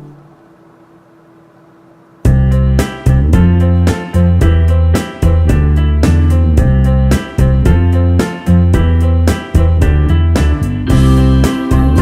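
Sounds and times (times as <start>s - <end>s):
low hiss: 0.0s - 10.8s
background music: 2.3s - 12.0s.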